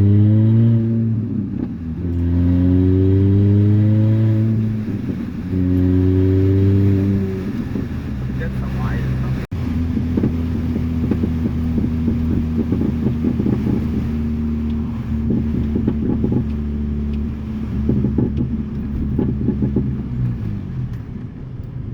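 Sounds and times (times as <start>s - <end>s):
car exhaust low note: 0.0s - 21.9s
exhaust crackles and pops: 0.9s - 2.4s, 4.2s - 21.9s.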